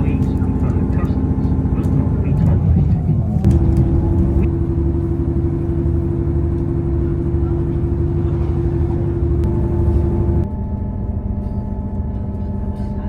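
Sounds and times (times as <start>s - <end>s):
droning hum: 0.0s - 13.0s
train rumbling: 0.0s - 13.0s.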